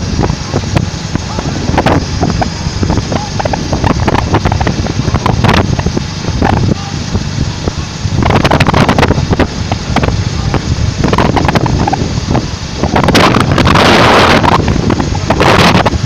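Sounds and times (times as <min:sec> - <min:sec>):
motorcycles running: 0:00.0 - 0:16.0
wind buffeting microphone: 0:00.0 - 0:16.0.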